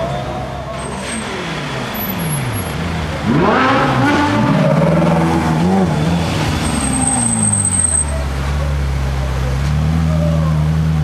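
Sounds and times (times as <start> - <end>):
car engine revving: 1.0 - 11.0.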